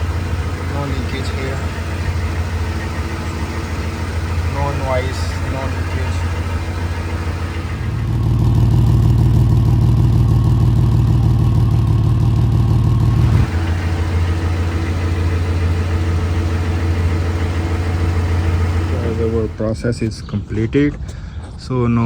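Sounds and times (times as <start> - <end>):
truck engine idling: 0.0 - 21.5.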